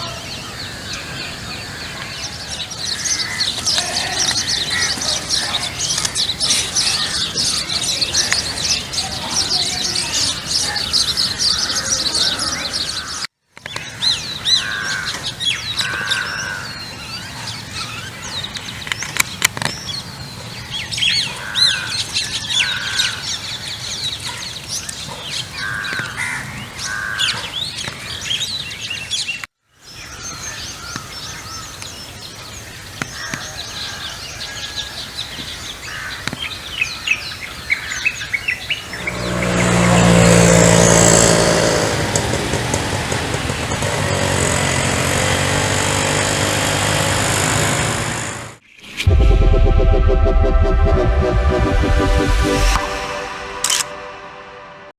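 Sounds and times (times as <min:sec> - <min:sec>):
chorus of birds chirping: 0:00.0 - 0:49.1.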